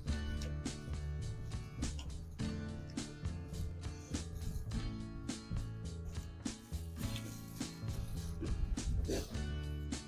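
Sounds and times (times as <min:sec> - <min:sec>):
music with a steady beat: 0:00.0 - 0:10.0.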